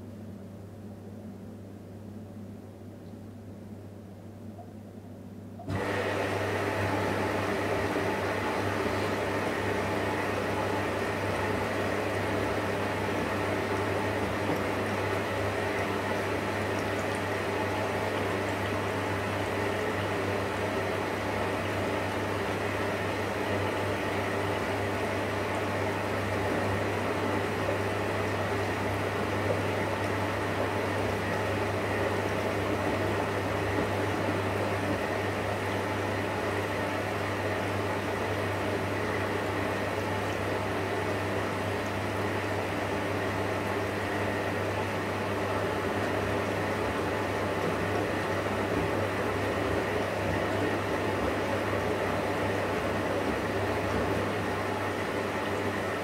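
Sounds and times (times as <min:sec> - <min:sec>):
low motor hum: 0:04.4 - 0:56.0
water sloshing in washing machine: 0:05.6 - 0:56.0.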